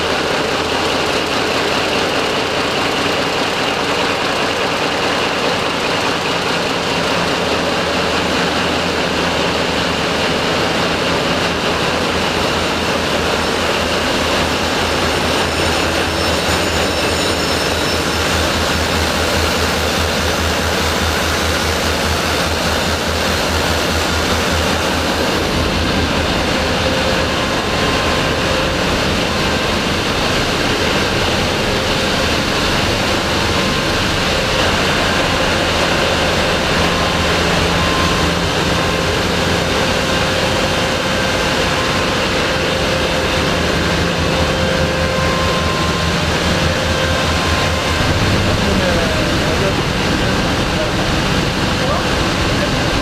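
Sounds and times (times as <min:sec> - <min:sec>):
diesel engines roaring: 0:00.0 - 0:53.0
machinery whining tones: 0:00.0 - 0:53.0.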